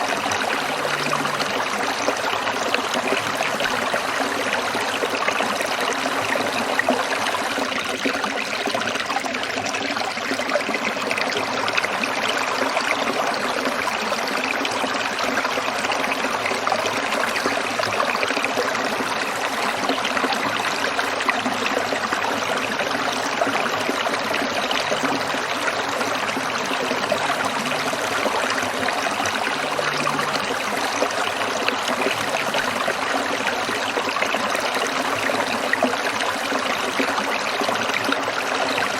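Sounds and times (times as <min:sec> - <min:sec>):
stream water trickling over stones: 0:00.0 - 0:38.9.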